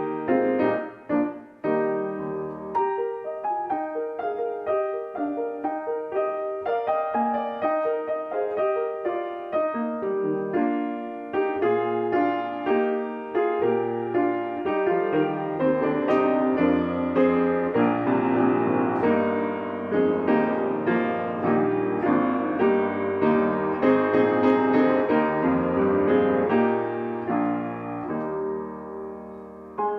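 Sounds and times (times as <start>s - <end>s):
solo piano melody: 0.0s - 29.9s.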